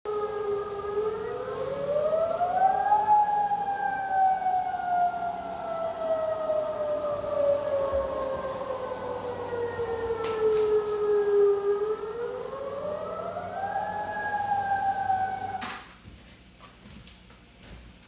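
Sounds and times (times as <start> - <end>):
warning siren wailing: 0.1 - 15.8.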